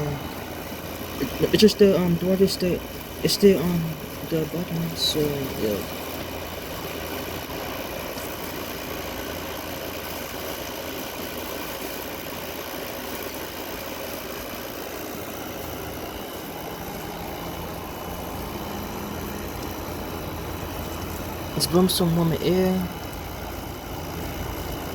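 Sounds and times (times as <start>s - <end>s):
air conditioner humming: 0.0s - 24.9s
fan slinging water: 0.0s - 24.9s.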